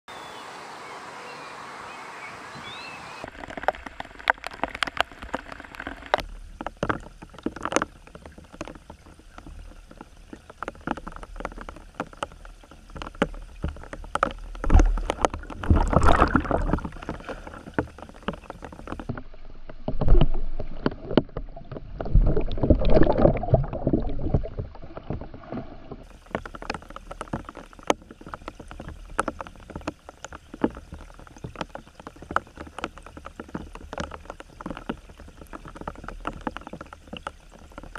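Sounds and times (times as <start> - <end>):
water sloshing: 2.4 - 37.9
sharp clicks and knocks: 3.2 - 37.9.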